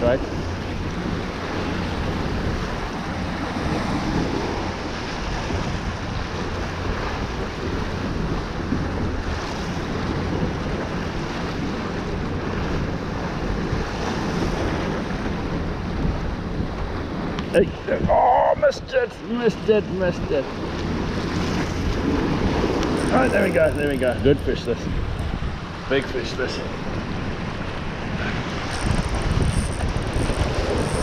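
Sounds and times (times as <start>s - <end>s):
wind buffeting microphone: 0.0s - 18.9s, 19.5s - 31.0s
sea surf: 0.0s - 31.0s.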